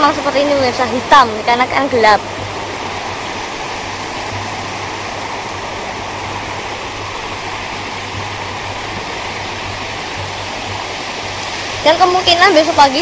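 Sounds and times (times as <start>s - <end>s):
low steady hum: 0.0s - 13.0s
sea surf washing on beach: 0.0s - 13.0s.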